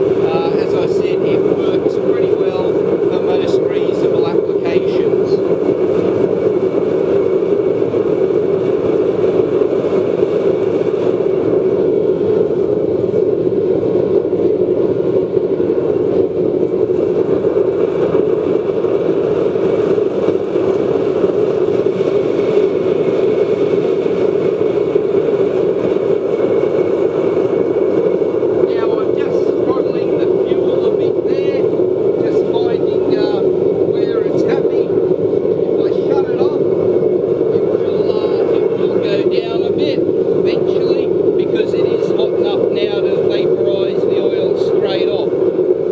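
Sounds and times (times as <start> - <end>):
blower whirring: 0.0 - 45.9
rush of flame and air: 0.0 - 45.9.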